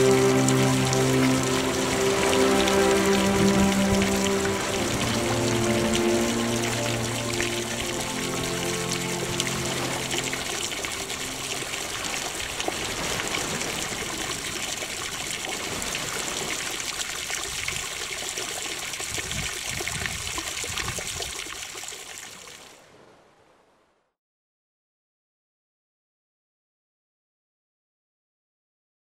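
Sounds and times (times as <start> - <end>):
water trickling and splashing: 0.0 - 23.4.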